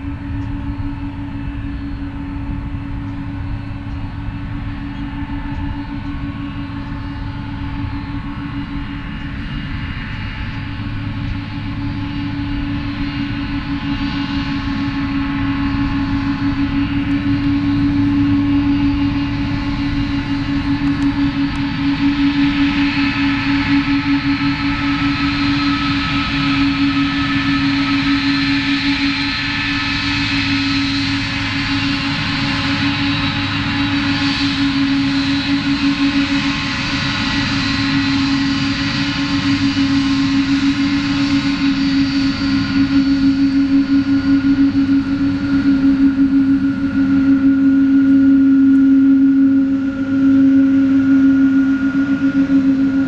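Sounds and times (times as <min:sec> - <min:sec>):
jet engines whining at taxi: 0:00.0 - 0:53.0.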